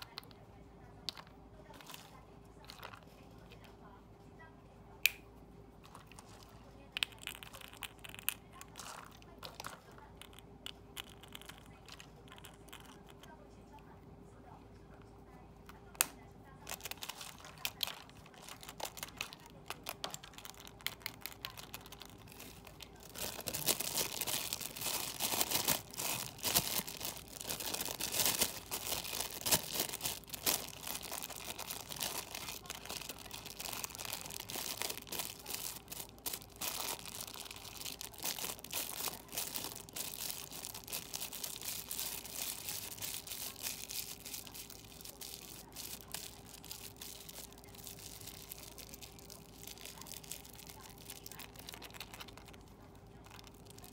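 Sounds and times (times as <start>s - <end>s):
metallic foil crinkling: 5.8s - 13.4s, 15.8s - 53.9s.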